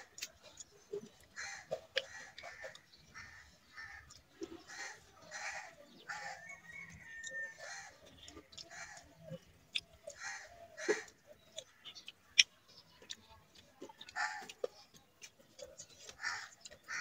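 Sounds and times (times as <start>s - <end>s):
people chewing and slurping: 0.0s - 17.0s.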